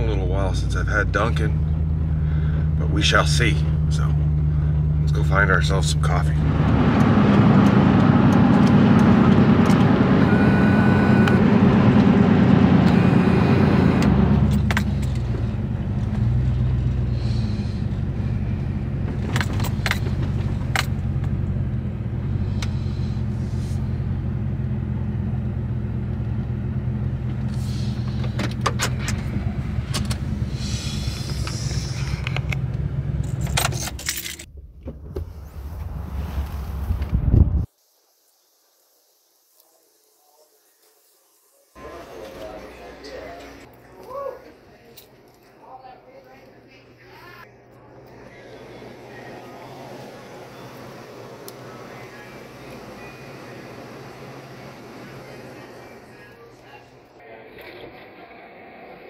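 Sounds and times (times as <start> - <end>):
engine hum: 0.0 - 37.7, 46.8 - 58.0
road and engine noise: 0.0 - 38.0, 47.5 - 57.3.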